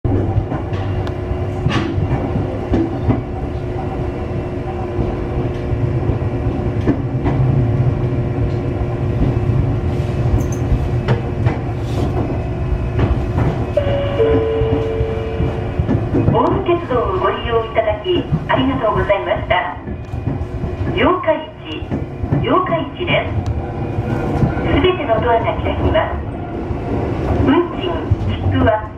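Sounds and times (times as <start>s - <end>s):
electric train rumbling: 0.0s - 28.9s.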